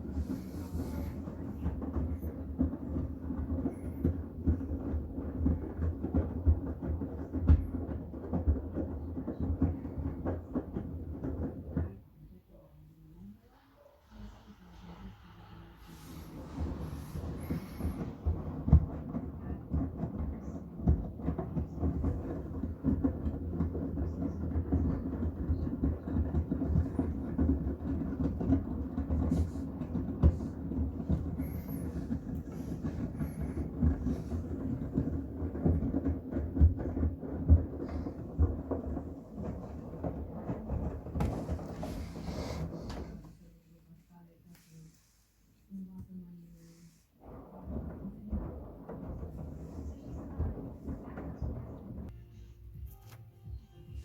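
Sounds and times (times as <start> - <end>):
laundry knocking in drum: 0.0 - 12.1, 16.0 - 43.4, 47.2 - 52.2
washing machine drum motor hum: 0.0 - 12.6, 14.1 - 44.3, 46.0 - 54.0.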